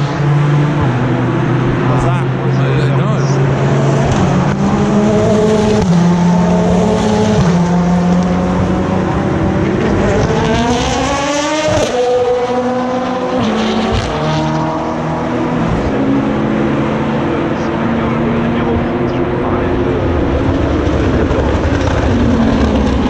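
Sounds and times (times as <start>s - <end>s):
race car engines: 0.0s - 23.0s.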